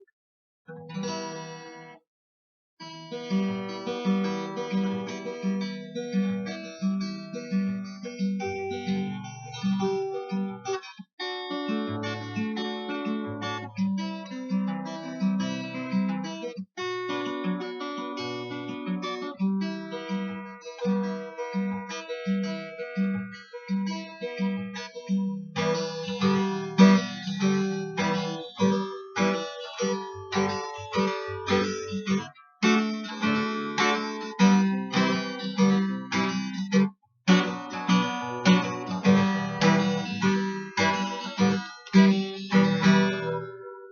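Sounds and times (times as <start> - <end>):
acoustic guitar strumming chords: 0.7 - 2.0, 2.8 - 43.9.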